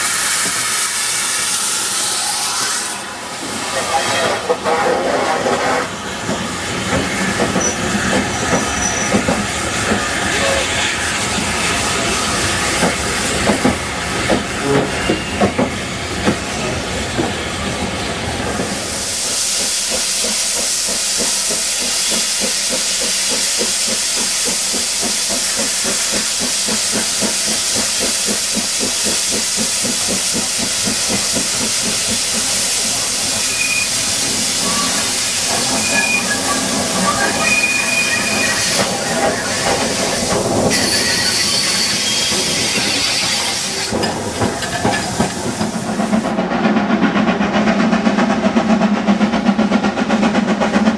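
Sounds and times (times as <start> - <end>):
steam hissing: 0.0 - 46.3.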